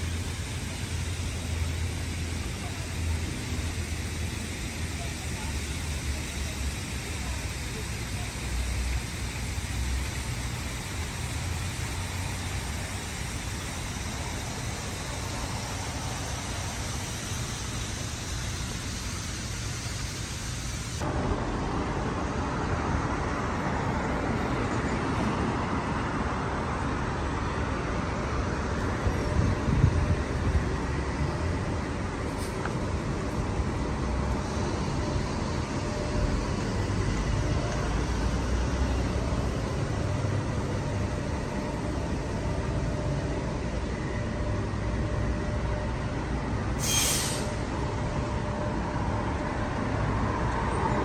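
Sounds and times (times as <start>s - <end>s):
road traffic hum: 0.0s - 51.0s.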